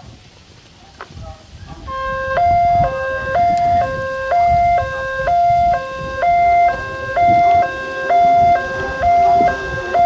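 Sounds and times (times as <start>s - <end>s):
two-tone crossing alarm: 1.9s - 10.0s.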